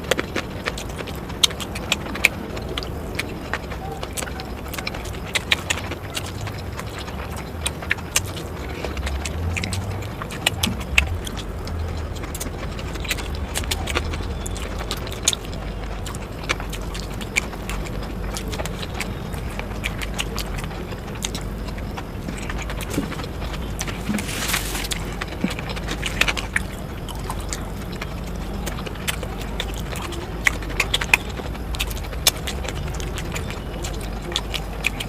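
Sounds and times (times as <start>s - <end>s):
crunching of someone eating: 0.0s - 35.0s
low steady rumble: 0.0s - 35.0s.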